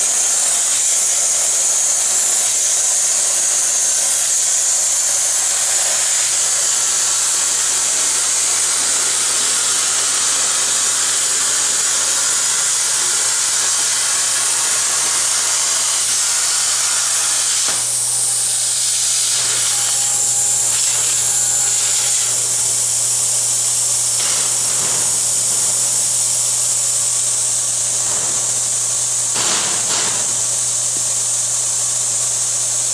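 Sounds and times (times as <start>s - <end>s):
plasma torch cutting metal: 0.0s - 32.9s.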